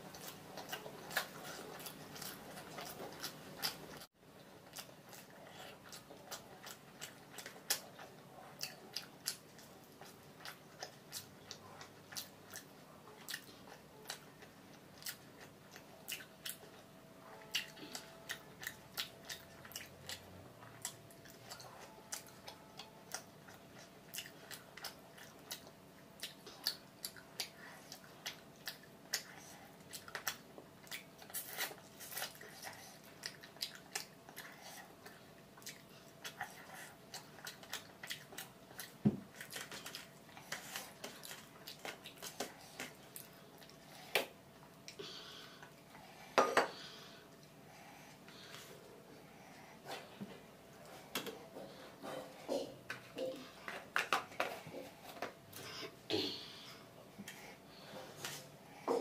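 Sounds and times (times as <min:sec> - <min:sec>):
person chewing and mouth sounds: 0:00.0 - 0:48.7.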